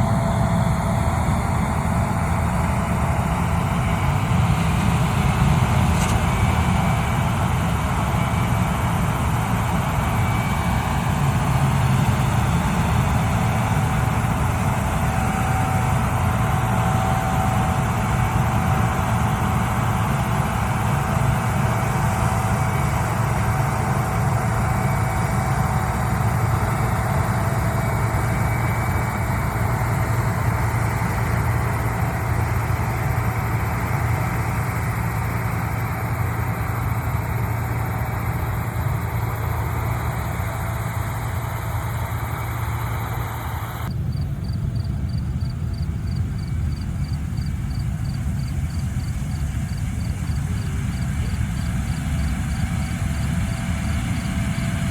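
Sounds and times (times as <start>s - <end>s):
combine harvester engine drone: 0.0s - 54.9s
faint steady whine: 0.0s - 54.9s.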